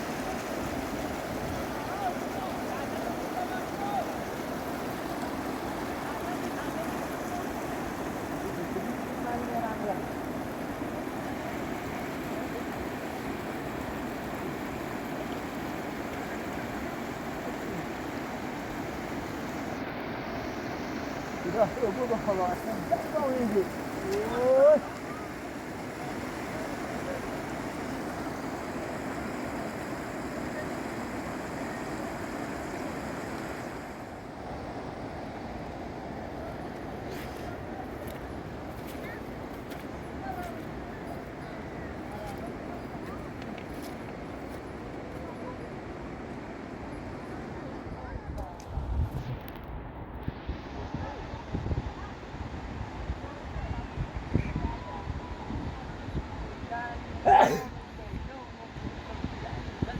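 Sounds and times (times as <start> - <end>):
river water rushing: 0.0 - 47.6, 57.0 - 57.8.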